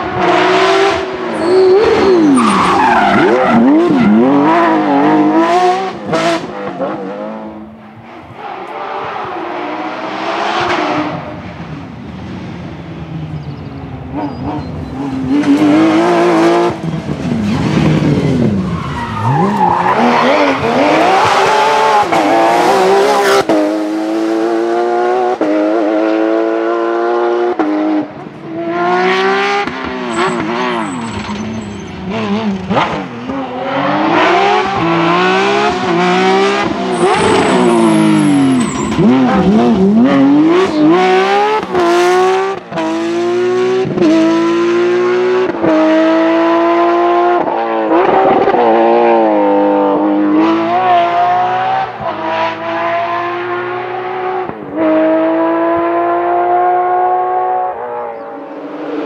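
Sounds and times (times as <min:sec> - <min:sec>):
rally car engines passing at high revs: 0:00.0 - 0:59.0.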